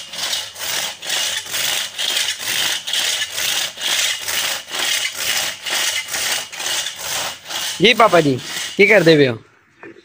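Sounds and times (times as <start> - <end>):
hand saw rasping through log: 0.0 - 9.3.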